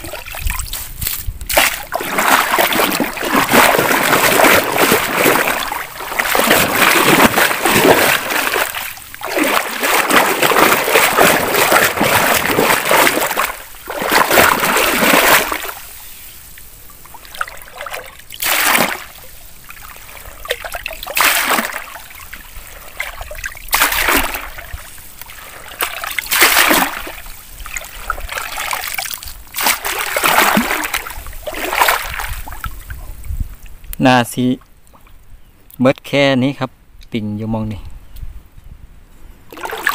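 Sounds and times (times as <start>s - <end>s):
hand net splashing through water: 0.0s - 16.0s, 17.1s - 32.8s, 39.5s - 39.9s
water trickling: 1.5s - 34.0s.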